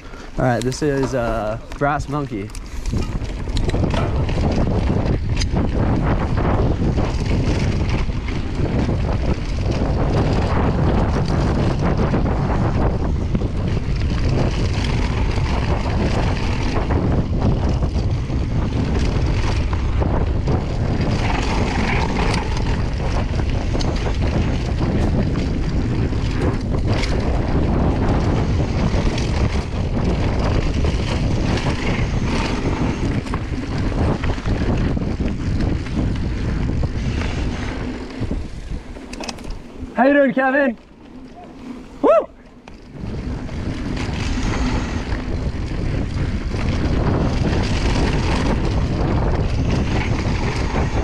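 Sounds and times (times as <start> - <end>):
bike rattling over bumps: 0.0 - 51.0
bike tyres rolling over dirt: 0.0 - 51.0
wind on microphone: 0.0 - 51.0.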